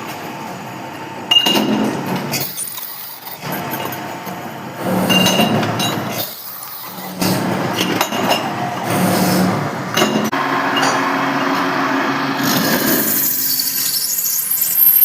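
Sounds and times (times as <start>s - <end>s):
workshop machine humming: 0.0s - 15.0s.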